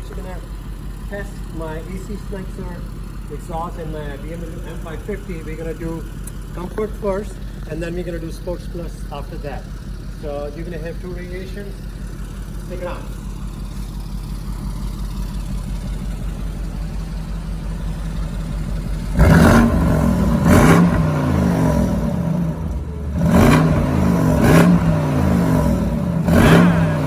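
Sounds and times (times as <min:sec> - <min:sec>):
car engine idling: 0:00.0 - 0:27.0
engine revving: 0:00.0 - 0:27.0.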